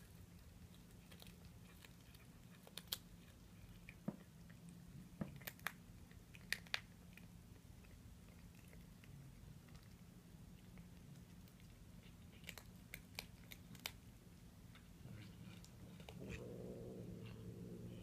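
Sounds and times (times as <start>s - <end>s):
cat crunching on bone: 0.0s - 17.5s.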